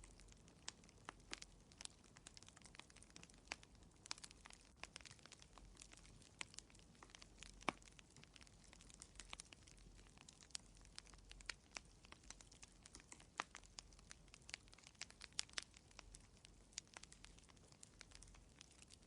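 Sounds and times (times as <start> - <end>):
burning wood popping: 0.0 - 19.0
wood fire crackling: 0.0 - 19.0.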